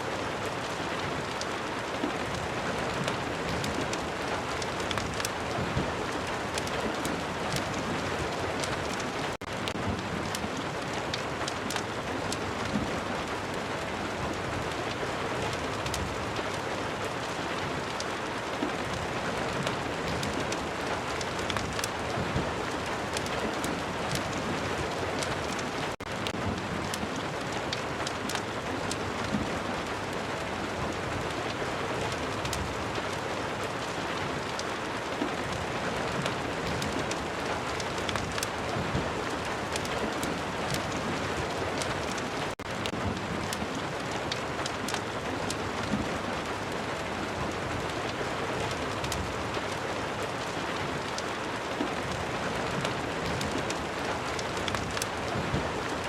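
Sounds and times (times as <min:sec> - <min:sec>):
steady rain: 0:00.0 - 0:56.0
fireplace crackling: 0:00.2 - 0:56.0.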